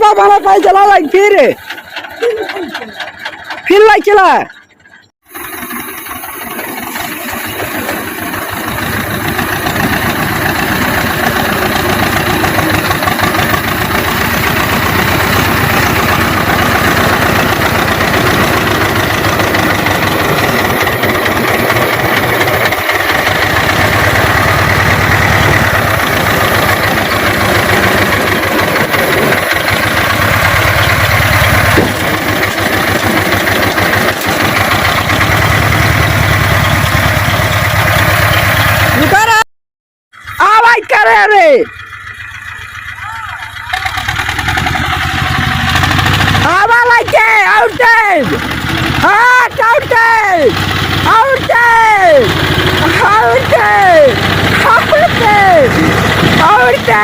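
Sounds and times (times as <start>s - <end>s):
tractor diesel engine running: 0.0s - 39.4s, 40.1s - 57.0s.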